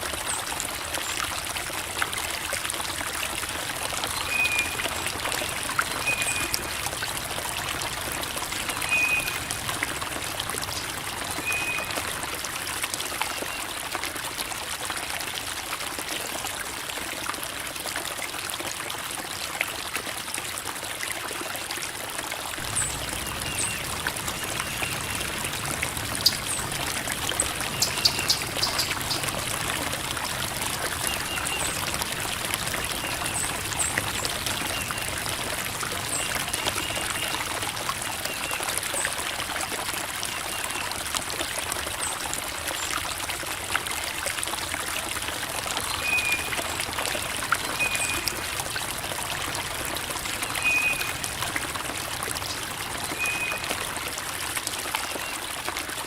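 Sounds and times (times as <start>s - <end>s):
creek water babbling over rocks: 0.0s - 56.0s.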